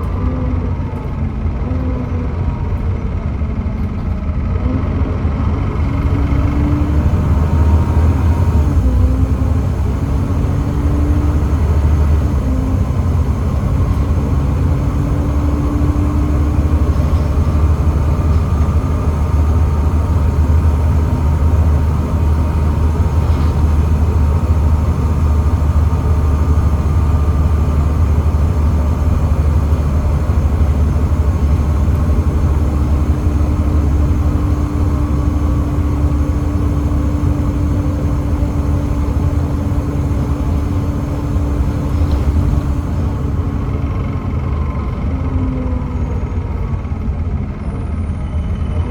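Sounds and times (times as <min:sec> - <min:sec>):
bus diesel engine droning: 0:00.0 - 0:48.9.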